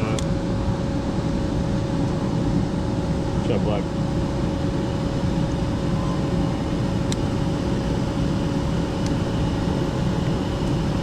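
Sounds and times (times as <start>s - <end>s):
blower motor humming: 0.0s - 11.0s.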